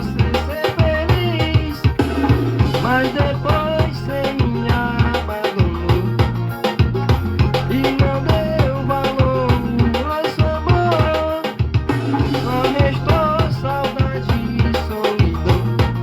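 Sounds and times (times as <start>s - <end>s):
bass line: 0.0s - 16.0s
drum kit beat: 0.0s - 16.0s.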